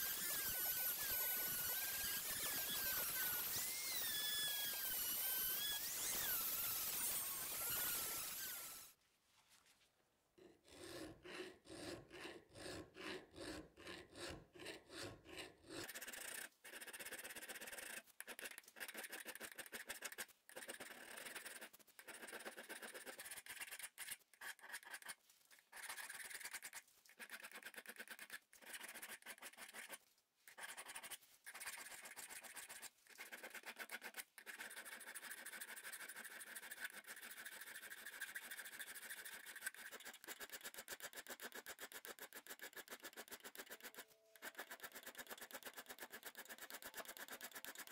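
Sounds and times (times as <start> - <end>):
file rasping on steel: 0.0 - 8.9, 10.4 - 47.9.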